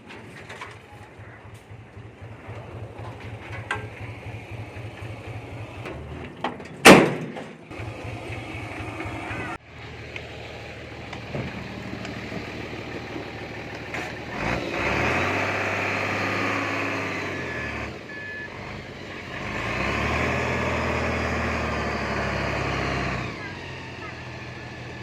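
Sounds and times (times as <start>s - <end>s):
bulldozer diesel engine revving: 1.4s - 6.4s, 7.7s - 25.0s.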